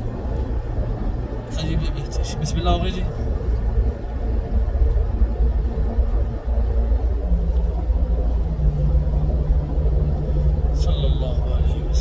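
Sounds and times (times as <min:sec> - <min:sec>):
car engine and tyre rumble: 0:00.0 - 0:12.0
steady hum: 0:00.0 - 0:12.0.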